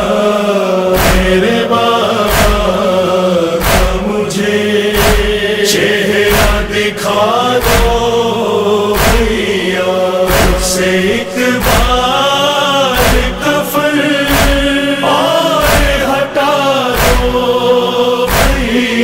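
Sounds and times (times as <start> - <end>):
mourning lament chanted: 0.0 - 19.0
sharp rhythmic beats: 0.9 - 6.9, 7.6 - 19.0.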